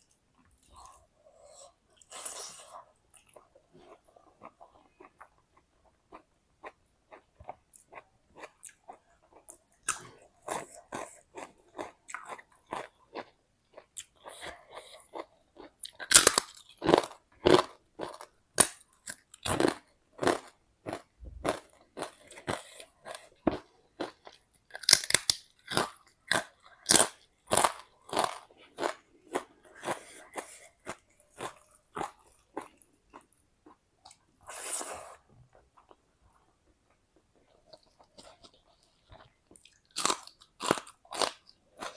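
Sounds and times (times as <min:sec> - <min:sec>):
crunchy food chewing: 0:00.7 - 0:36.0, 0:37.2 - 0:41.9.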